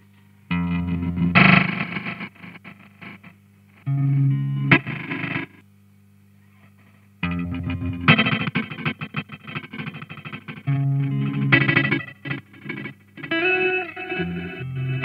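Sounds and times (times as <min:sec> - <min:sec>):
steady low hum: 0:00.0 - 0:15.0
electric guitar with stuttering repeats: 0:00.5 - 0:05.6, 0:07.2 - 0:15.0.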